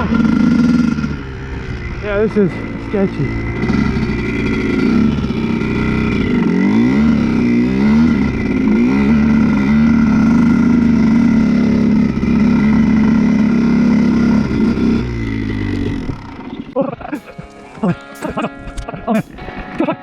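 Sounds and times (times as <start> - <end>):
dirt bike engine revving: 0.0 - 19.6.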